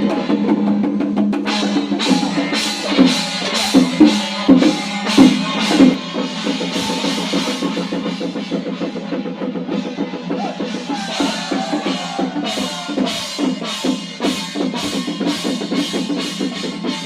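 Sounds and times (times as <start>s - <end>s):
drum and percussion ensemble: 0.0s - 17.0s.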